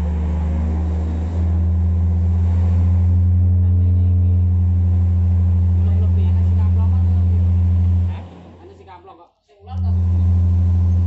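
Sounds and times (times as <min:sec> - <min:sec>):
deep steady bass tone: 0:00.0 - 0:08.3, 0:09.8 - 0:11.0.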